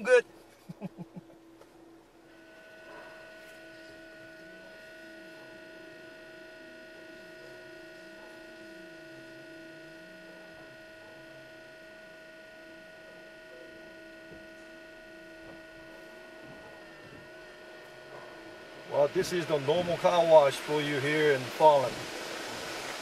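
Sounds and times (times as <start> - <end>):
car wash machinery hum: 0.0 - 23.0
high steady tones: 0.0 - 23.0
low tone swinging up and down: 0.0 - 23.0.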